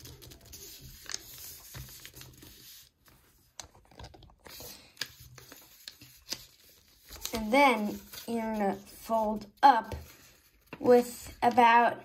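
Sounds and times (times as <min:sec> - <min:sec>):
paper rustling and crinkling: 0:00.0 - 0:11.6.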